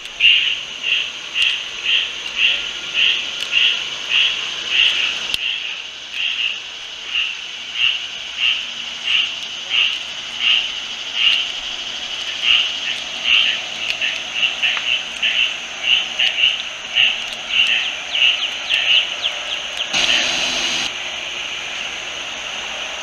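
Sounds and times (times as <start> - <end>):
steady high hiss: 0.0 - 23.0.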